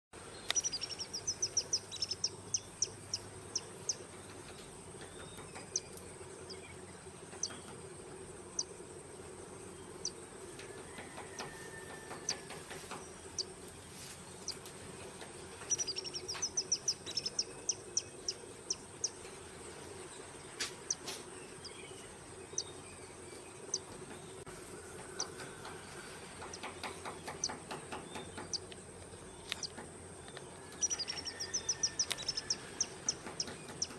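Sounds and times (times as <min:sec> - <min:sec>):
low hum: 0:00.2 - 0:11.5, 0:12.1 - 0:33.9.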